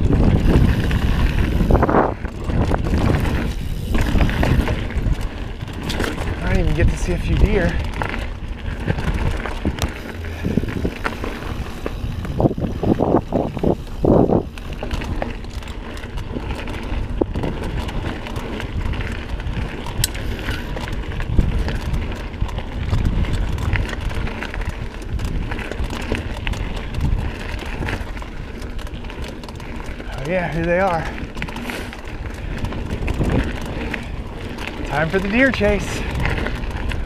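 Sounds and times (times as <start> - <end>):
bike bumps: 0.0 - 37.0
bike rattling: 0.0 - 37.0
bike tyres rumbling on dirt: 0.0 - 37.0
wind buffeting microphone: 0.0 - 37.0.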